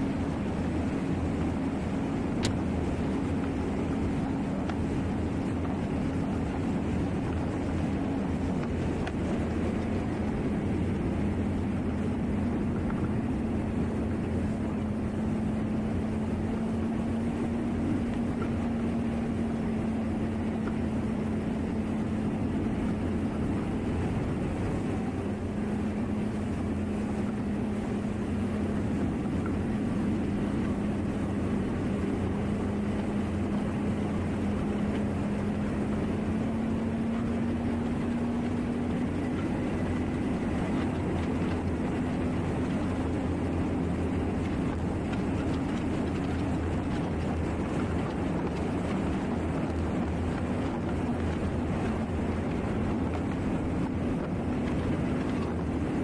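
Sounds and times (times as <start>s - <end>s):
outboard motor at high speed: 0.0s - 56.0s
rush of wind and water: 0.0s - 56.0s.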